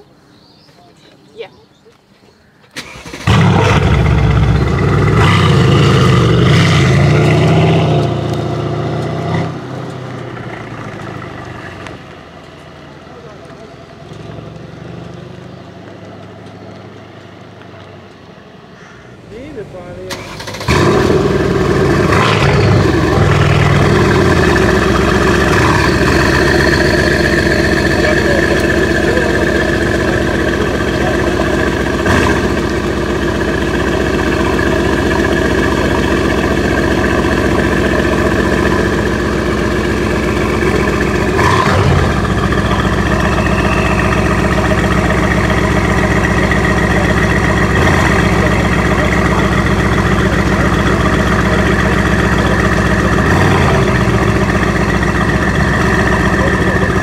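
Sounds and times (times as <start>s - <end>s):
car engine idling: 2.8s - 57.0s.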